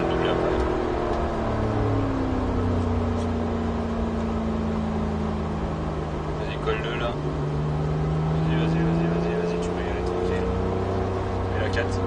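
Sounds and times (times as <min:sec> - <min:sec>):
car engine revs falling: 0:00.0 - 0:12.0.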